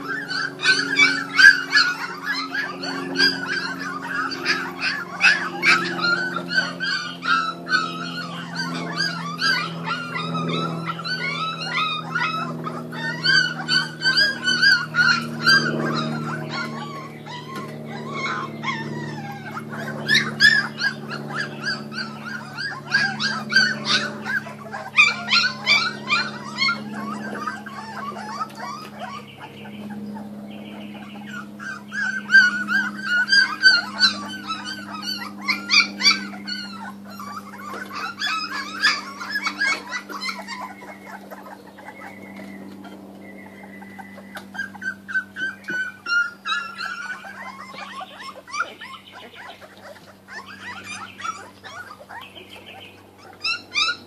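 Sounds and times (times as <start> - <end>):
puppies whimpering and squealing: 0.0 - 54.0.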